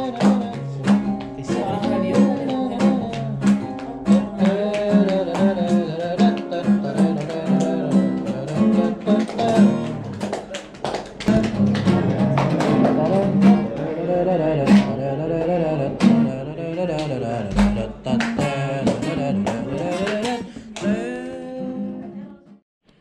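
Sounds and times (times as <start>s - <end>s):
woman singing: 0.0s - 9.8s, 12.8s - 22.6s
acoustic guitar strumming: 0.0s - 10.3s, 11.2s - 22.5s.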